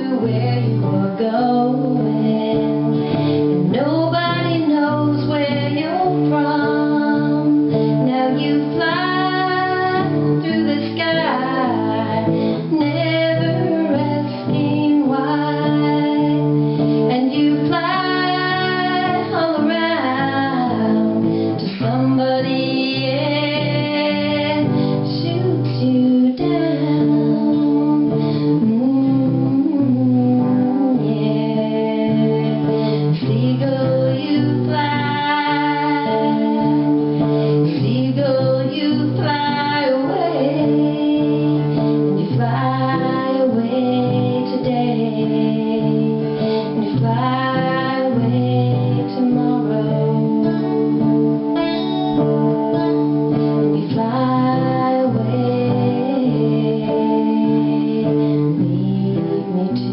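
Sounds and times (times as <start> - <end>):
guitar: 0.0 - 59.9
woman singing a rock ballad: 0.0 - 59.9.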